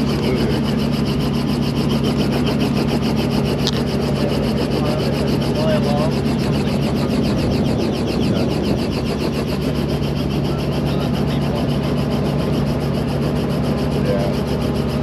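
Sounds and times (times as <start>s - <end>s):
helicopter rotor chopping: 0.0s - 15.0s
low engine hum: 0.0s - 15.0s.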